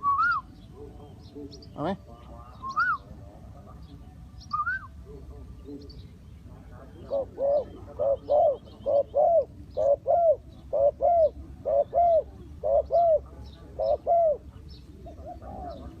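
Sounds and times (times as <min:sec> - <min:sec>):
dove cooing: 0:00.0 - 0:16.0
small birds chirping: 0:00.0 - 0:16.0.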